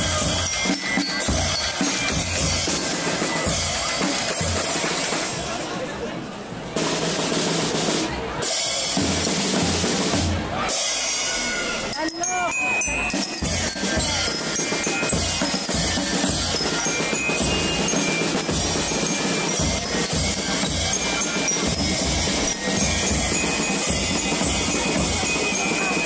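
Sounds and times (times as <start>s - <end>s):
marching band playing: 0.0s - 5.8s, 6.7s - 26.0s.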